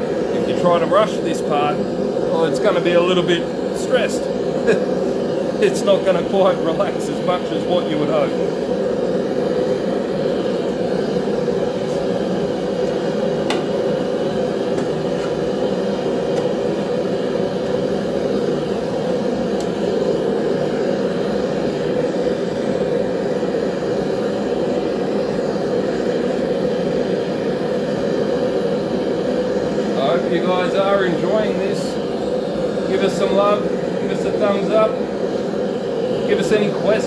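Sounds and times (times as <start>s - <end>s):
forge flame rushing: 0.0s - 37.0s.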